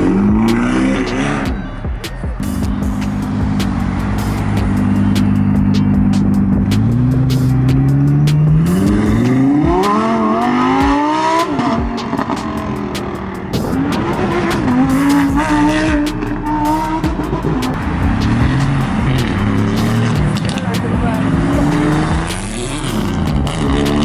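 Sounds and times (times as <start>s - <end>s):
car engine accelerating hard: 2.8s - 24.0s.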